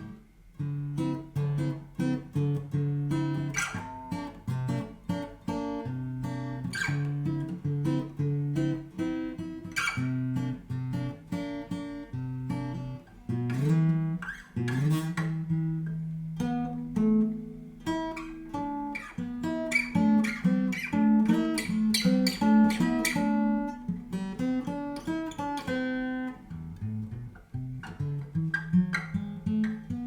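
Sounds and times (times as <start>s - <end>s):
fingerstyle acoustic guitar: 0.0s - 30.0s.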